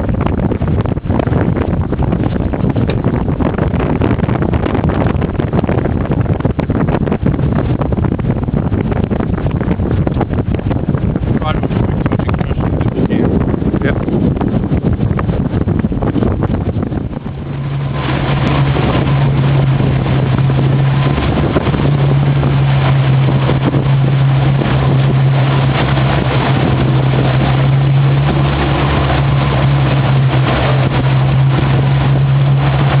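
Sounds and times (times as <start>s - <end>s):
outboard motor drone: 0.0s - 33.0s
wind noise on microphone: 0.0s - 33.0s.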